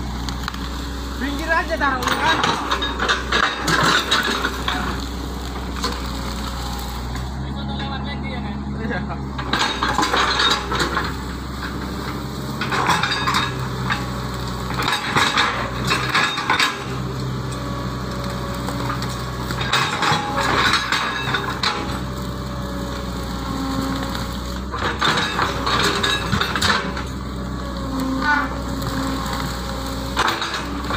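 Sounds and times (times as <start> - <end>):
excavator diesel engine running: 0.0 - 30.9
crunching and clattering: 0.1 - 8.0, 9.3 - 30.9.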